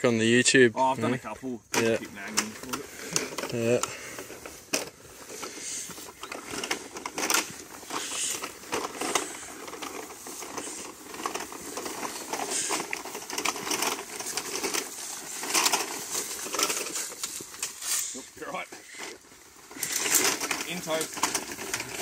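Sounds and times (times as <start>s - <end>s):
plastic pipe crackling and rustling: 1.0s - 22.0s.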